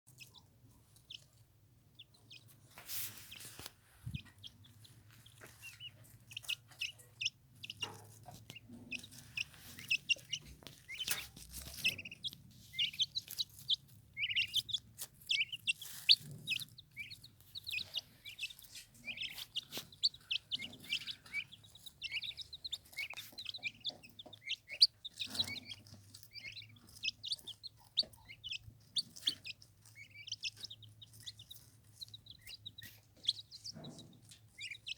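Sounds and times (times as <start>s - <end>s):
turkey poults peeping: 0.1s - 34.9s.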